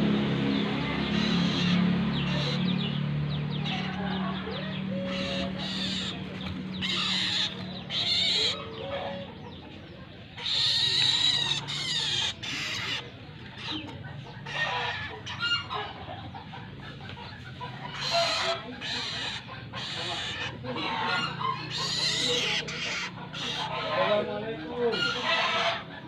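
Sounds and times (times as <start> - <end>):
birds making harsh calls: 0.0 - 26.0.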